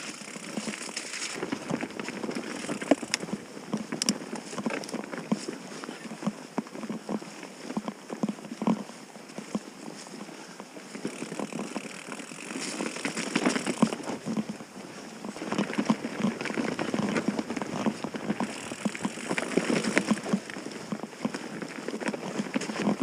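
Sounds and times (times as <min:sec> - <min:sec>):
bike rattles and knocks: 0:00.0 - 0:08.8, 0:10.8 - 0:14.6, 0:15.2 - 0:23.0
bike tyres on dirt: 0:00.0 - 0:23.0.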